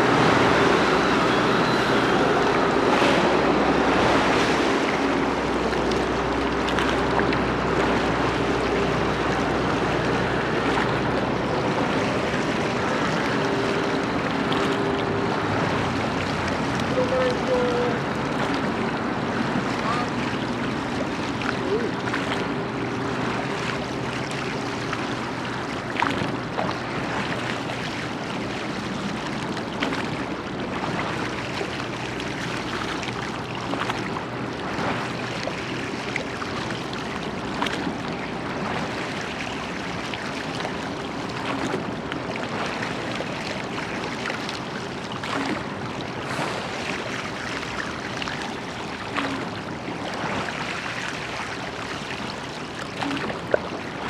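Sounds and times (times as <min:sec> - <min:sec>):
water washing along boat hull: 0:00.0 - 0:54.0.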